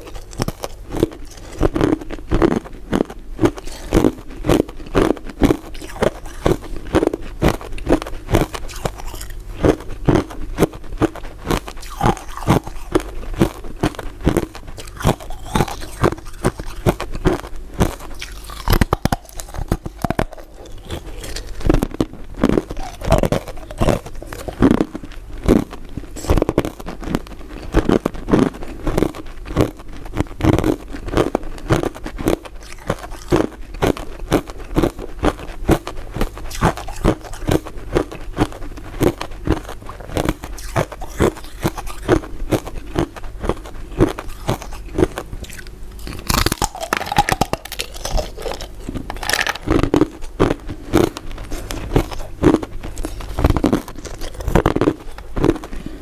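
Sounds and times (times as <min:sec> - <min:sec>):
crunching ice dessert: 0:00.0 - 0:56.0.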